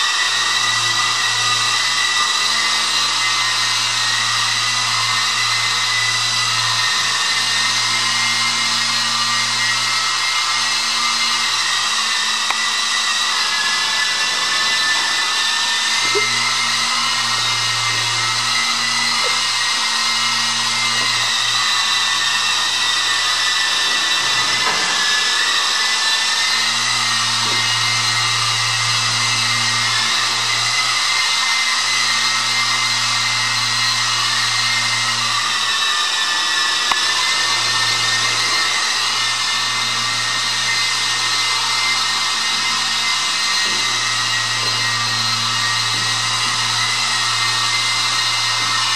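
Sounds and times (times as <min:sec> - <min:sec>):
toy helicopter motor whine: 0:00.0 - 0:48.9.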